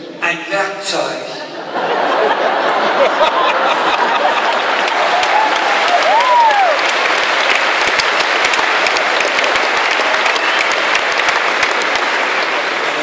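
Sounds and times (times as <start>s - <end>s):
crowd applauding: 2.0s - 13.0s.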